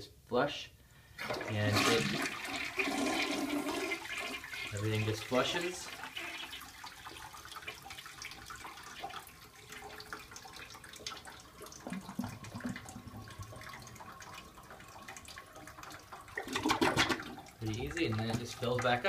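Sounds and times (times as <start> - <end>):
water swirling in toilet bowl: 1.1 - 19.0
water running into toilet tank: 1.2 - 19.0.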